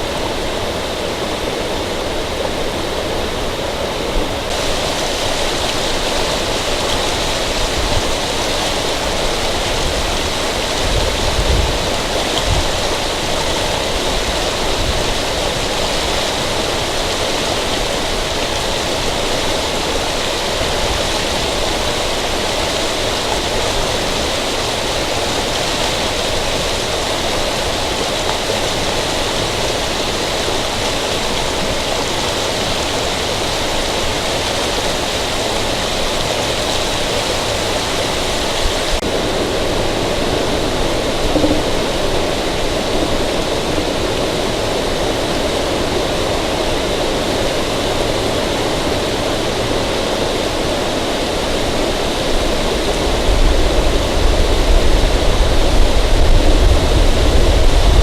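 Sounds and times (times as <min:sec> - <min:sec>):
steady rushing outdoor noise: 0:00.0 - 0:58.0.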